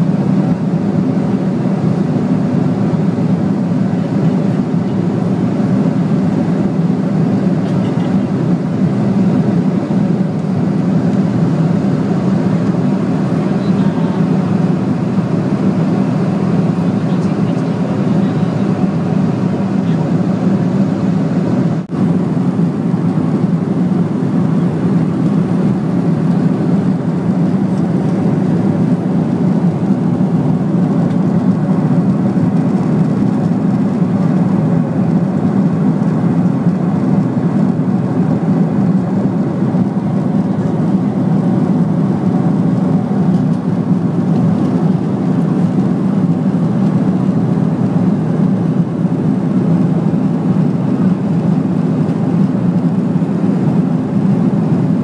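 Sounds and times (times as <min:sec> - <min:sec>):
airplane cabin jet noise: 0:00.0 - 0:55.0.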